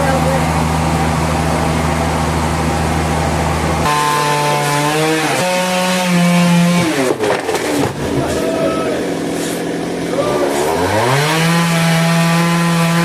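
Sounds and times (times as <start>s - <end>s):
engine saw cutting timber: 0.0s - 13.0s.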